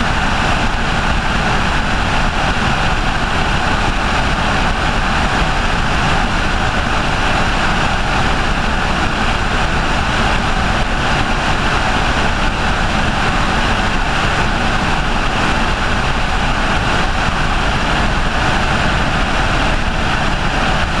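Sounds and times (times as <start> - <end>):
helicopter rotor and engine: 0.0 - 21.0.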